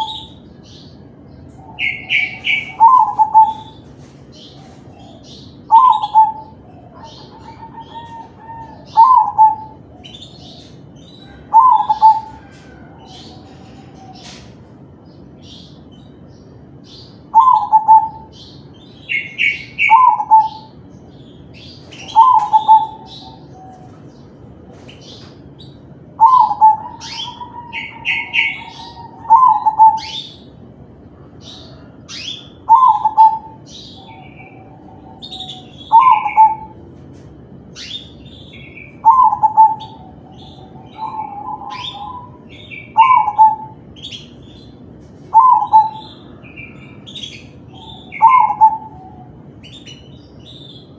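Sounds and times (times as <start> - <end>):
dove cooing: 0.0 - 14.7, 17.2 - 37.0, 37.8 - 50.9
higher bird chirps: 0.0 - 36.9, 37.7 - 50.9.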